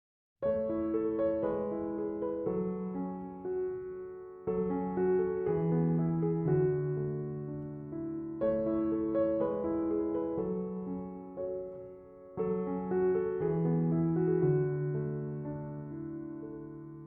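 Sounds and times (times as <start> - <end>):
slow gentle piano: 0.4 - 17.0.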